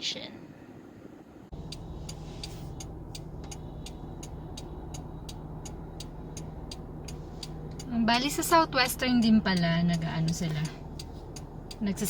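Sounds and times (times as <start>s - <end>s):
engine and road hum in car: 0.7s - 12.0s
turn signal ticking: 1.5s - 12.0s.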